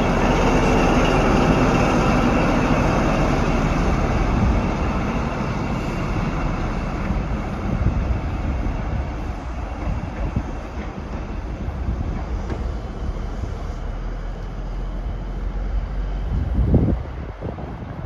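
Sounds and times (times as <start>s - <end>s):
diesel train engine drone: 0.0s - 18.0s
train wheel noise: 0.0s - 18.0s.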